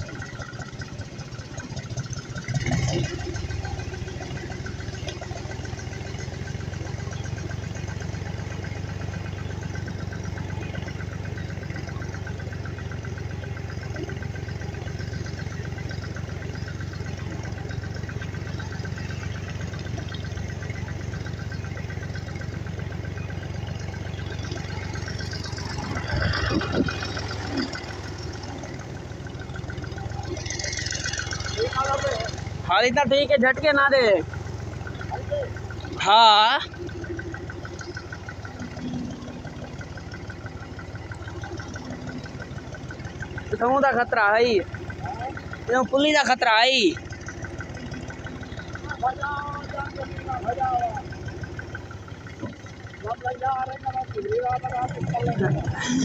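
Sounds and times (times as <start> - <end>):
engine clatter: 0.0 - 56.0
tractor engine running: 0.0 - 56.0.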